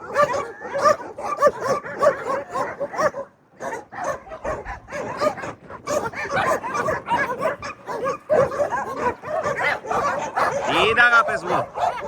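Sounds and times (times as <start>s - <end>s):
dogs barking and yipping: 0.0s - 12.0s.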